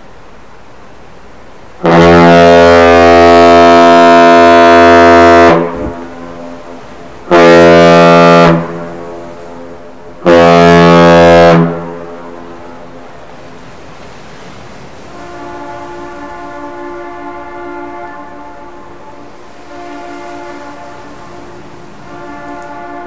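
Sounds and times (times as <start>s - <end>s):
deep ship horn blasts: 1.6s - 23.0s.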